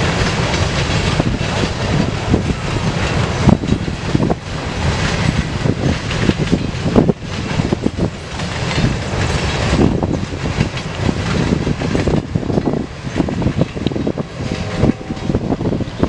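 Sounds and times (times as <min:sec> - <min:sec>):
freight train wheels rumbling: 0:00.0 - 0:16.0
wheels clacking over rail joints: 0:00.0 - 0:16.0.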